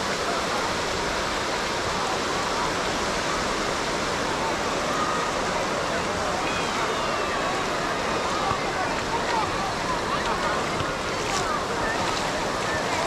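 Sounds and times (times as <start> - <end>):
faint voices of people: 0.0 - 13.0
ocean surf rushing: 0.0 - 13.0.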